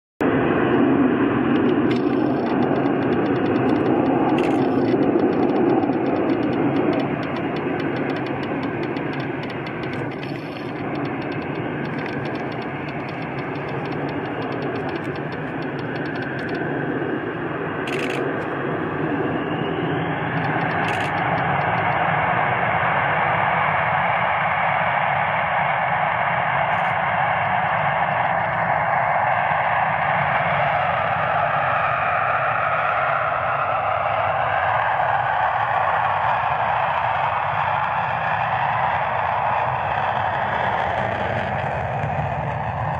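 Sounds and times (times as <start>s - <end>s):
jet engines roaring: 0.2s - 42.9s.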